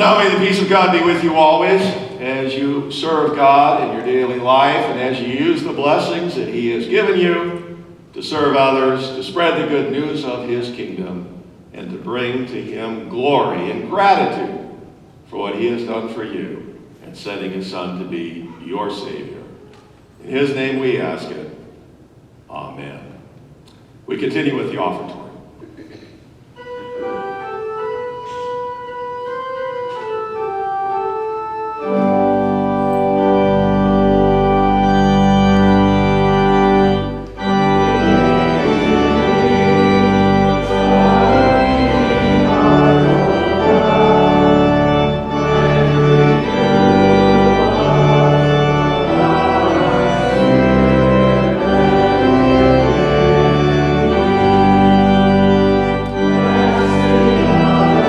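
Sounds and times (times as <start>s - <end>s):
church organ playing: 0.0s - 21.6s, 26.4s - 58.0s.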